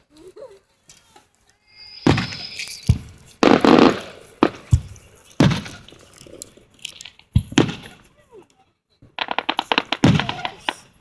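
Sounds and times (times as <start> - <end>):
fireworks bursting: 1.0 - 8.1, 9.1 - 11.0.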